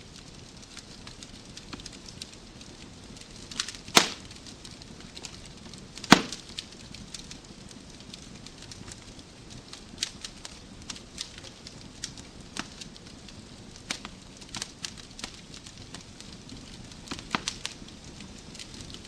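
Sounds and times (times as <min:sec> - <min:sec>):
wood fire crackling: 0:00.0 - 0:19.0
loud sharp fire pops: 0:00.2 - 0:19.0.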